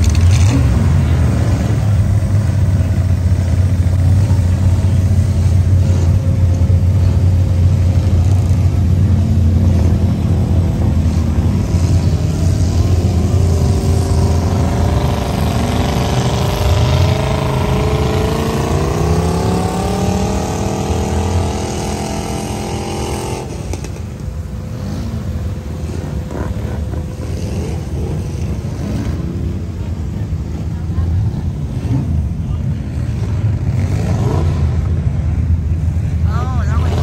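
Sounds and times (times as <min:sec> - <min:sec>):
low engine sound: 0:00.0 - 0:37.0
off-road vehicle engine revving: 0:00.0 - 0:37.0.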